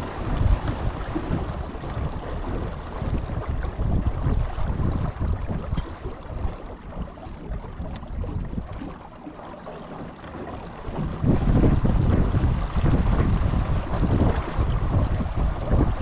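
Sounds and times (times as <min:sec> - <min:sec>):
wind buffeting microphone: 0:00.0 - 0:09.1, 0:10.4 - 0:16.0
water washing along hull: 0:00.0 - 0:16.0.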